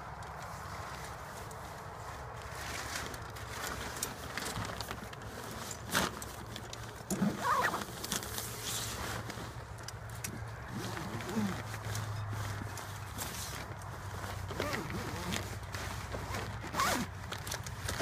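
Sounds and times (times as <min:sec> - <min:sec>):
fabric bag rustling and scraping: 0:00.1 - 0:18.0.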